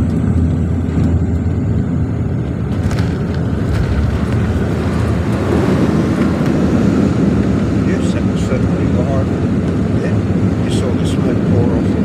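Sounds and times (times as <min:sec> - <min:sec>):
turboprop engine drone: 0:00.0 - 0:12.0.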